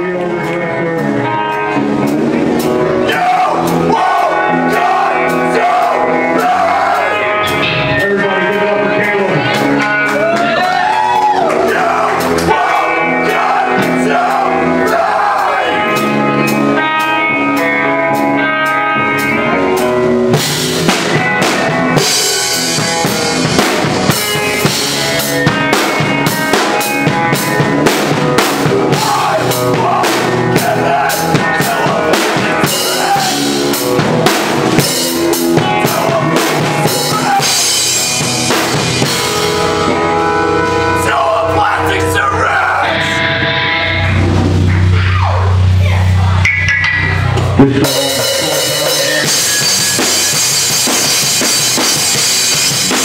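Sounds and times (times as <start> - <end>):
drum kit playing: 0.0 - 53.0
electric guitar chords: 0.0 - 53.0.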